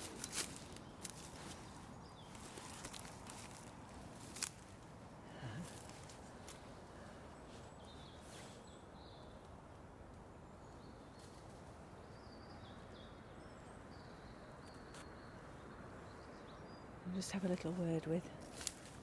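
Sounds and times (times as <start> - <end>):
low outdoor hum: 0.0 - 19.0
songbird chirps: 0.0 - 19.0.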